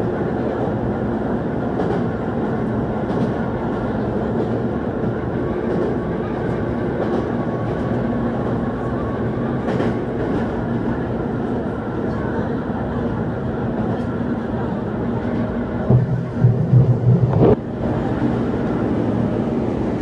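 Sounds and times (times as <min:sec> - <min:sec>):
train wheels rolling on rail: 0:00.0 - 0:20.0.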